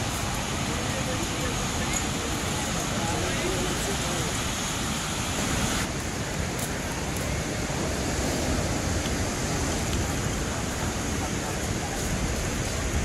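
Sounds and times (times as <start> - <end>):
ocean surf washing onto beach: 0.0 - 13.0
wind: 0.0 - 13.0.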